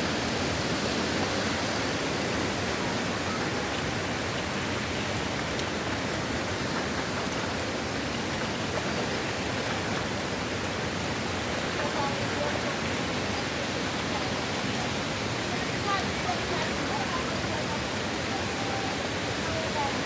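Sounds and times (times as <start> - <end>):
hurricane wind and rain: 0.0 - 20.0.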